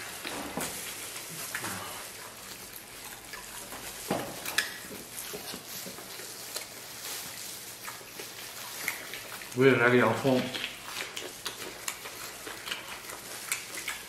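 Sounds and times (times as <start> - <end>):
chewing and mouth noises: 0.0 - 14.0
plastic gloves rustling: 0.0 - 14.0.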